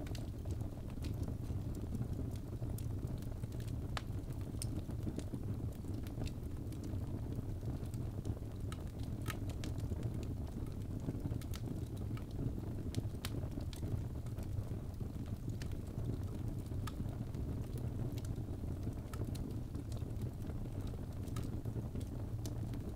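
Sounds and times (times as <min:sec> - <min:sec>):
fire crackling and popping: 0:00.0 - 0:22.9
fire rumbling: 0:00.0 - 0:22.9.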